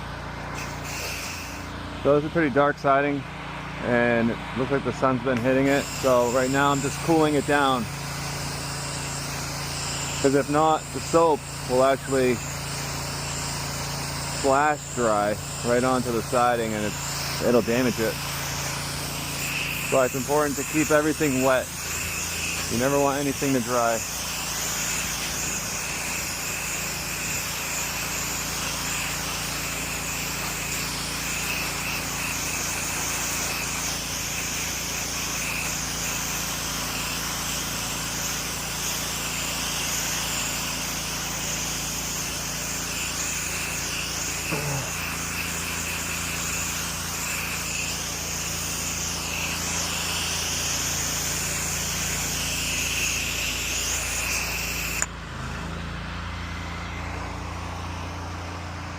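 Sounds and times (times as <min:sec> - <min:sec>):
pressure washer motor hum: 0:00.0 - 0:58.9
water spray hissing: 0:00.4 - 0:01.8, 0:05.4 - 0:55.1.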